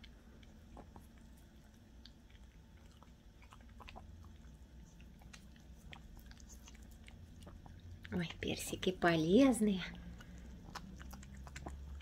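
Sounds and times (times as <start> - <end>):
dog chewing and licking: 0.0 - 12.0.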